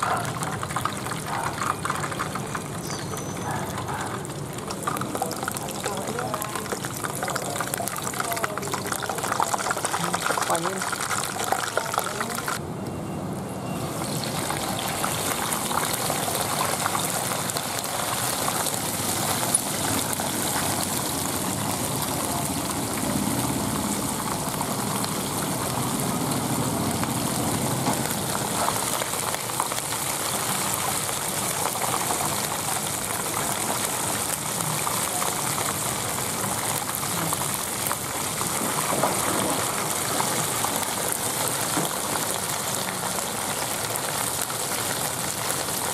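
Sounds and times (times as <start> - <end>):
hot oil sizzling and bubbling: 0.0 - 45.9.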